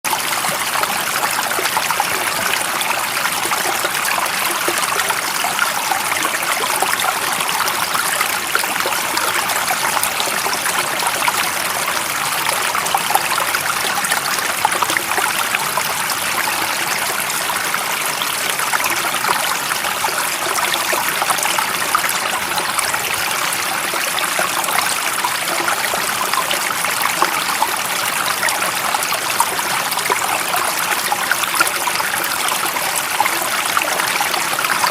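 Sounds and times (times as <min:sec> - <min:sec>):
stream of water trickling: 0:00.0 - 0:34.9.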